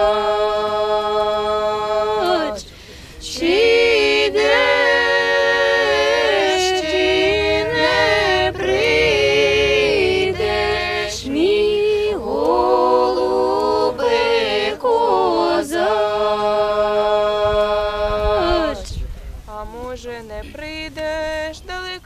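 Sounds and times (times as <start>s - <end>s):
women singing unaccompanied: 0.0s - 22.0s.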